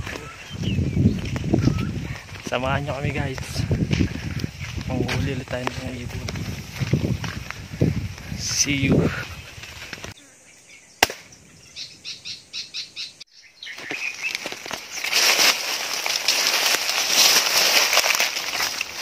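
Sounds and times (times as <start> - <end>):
leaves and twigs rustling: 0.0 - 10.2, 13.4 - 19.0.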